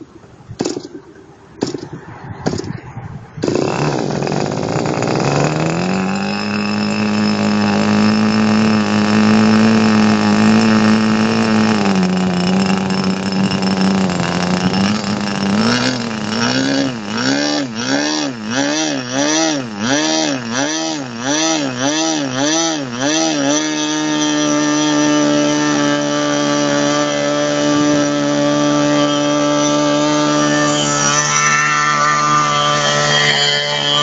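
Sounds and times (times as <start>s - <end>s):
model engine high-pitched buzz: 3.4s - 34.0s.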